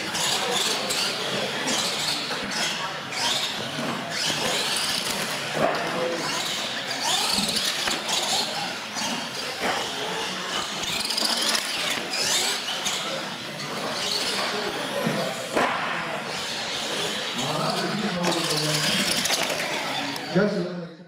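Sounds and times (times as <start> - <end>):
rc truck motors whining: 0.0 - 20.6.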